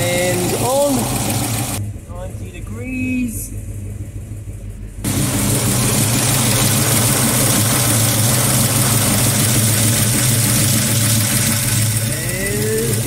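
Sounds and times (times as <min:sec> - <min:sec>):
car engine idling: 0:00.0 - 0:13.0
electric cooling fans running: 0:00.0 - 0:13.0.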